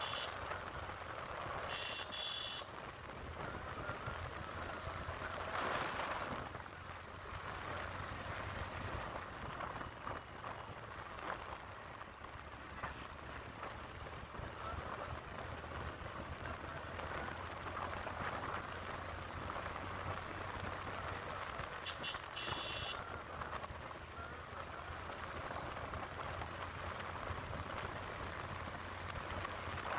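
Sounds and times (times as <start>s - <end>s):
motorcycle wind and road noise: 0.0s - 29.9s.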